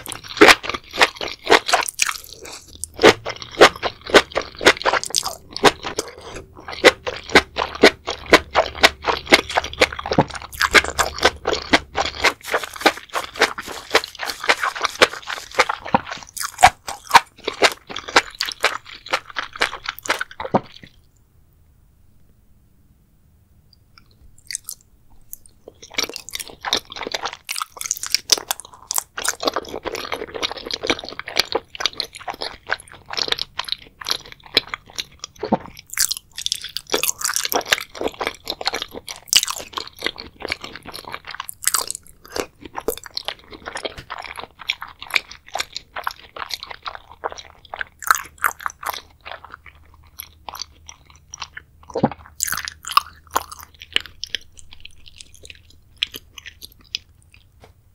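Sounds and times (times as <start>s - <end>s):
chewing with mouth clicks: 0.0s - 21.1s, 24.0s - 57.6s.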